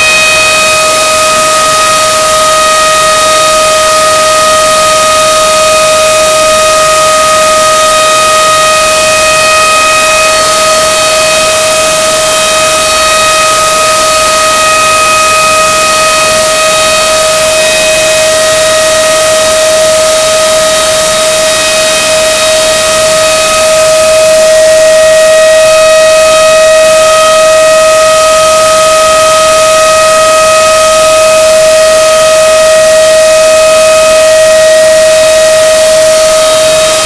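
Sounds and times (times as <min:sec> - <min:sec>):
distorted chicken scream: 0:00.0 - 0:37.0.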